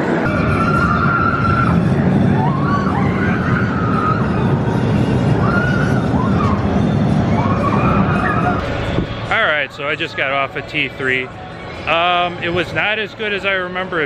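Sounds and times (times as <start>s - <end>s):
roller coaster train rumbling: 0.0s - 14.0s.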